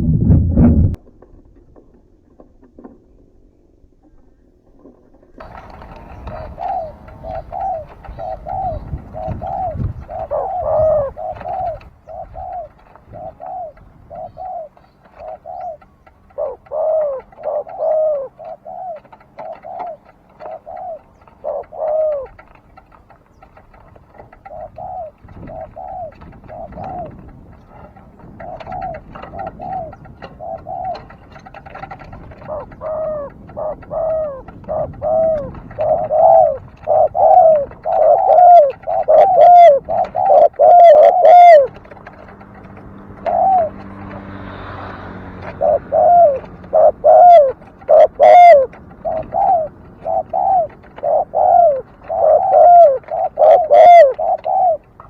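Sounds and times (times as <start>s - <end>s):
dove cooing: 5.4s - 55.0s.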